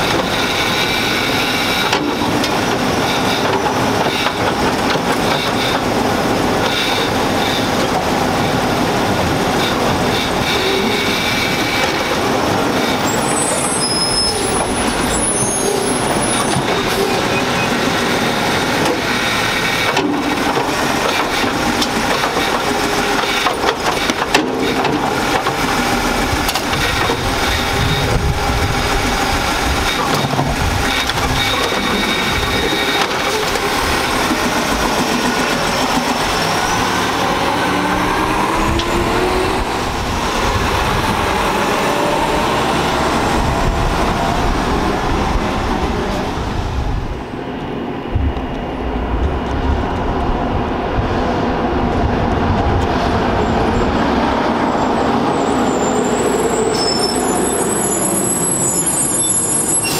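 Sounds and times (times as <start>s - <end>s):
garbage truck diesel engine running: 0.0s - 59.9s.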